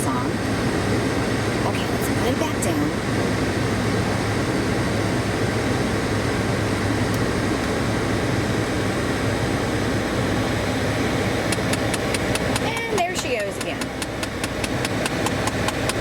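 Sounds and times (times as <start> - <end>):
car blower fan rushing: 0.0 - 16.0
idling engine hum: 0.0 - 16.0.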